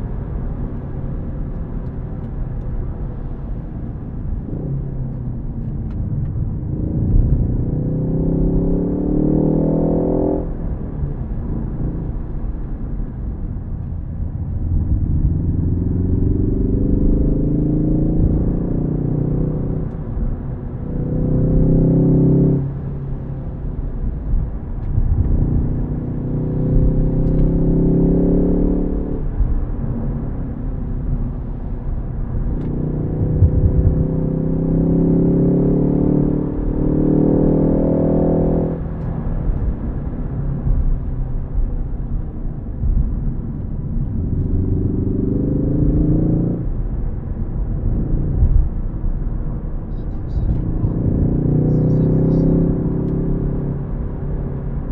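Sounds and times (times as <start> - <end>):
car engine accelerating hard: 0.0 - 54.9
low road rumble: 0.0 - 54.9.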